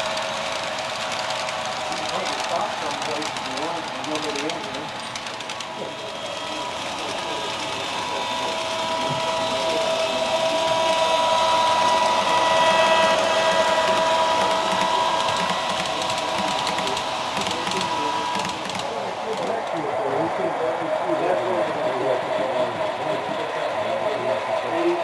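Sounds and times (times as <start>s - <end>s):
model train motor whining: 0.0s - 25.0s.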